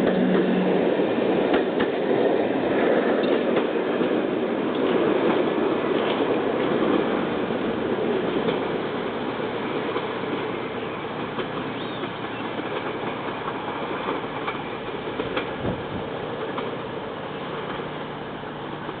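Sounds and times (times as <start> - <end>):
electric train rumbling along track: 0.0 - 19.0
train wheels clicking over rail joints: 0.0 - 19.0.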